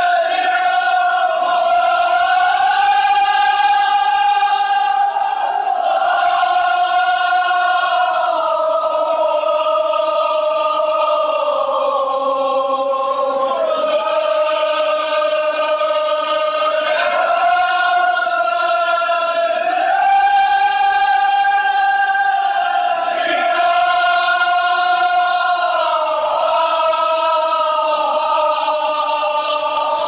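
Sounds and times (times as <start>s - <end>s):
group chanting in unison: 0.0s - 30.0s.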